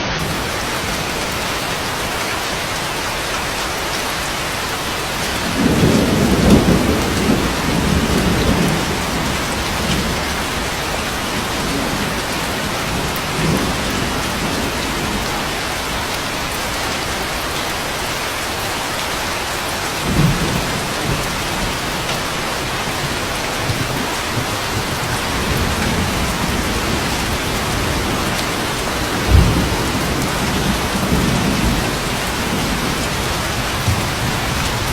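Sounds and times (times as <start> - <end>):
thunder rumbling: 0.0 - 3.6, 4.2 - 18.1, 19.9 - 34.9
steady rain falling: 0.0 - 34.9.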